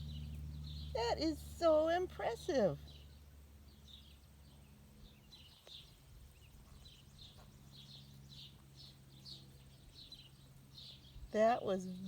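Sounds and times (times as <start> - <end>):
low steady hum: 0.0 - 12.0
small bird chirping: 0.0 - 12.0.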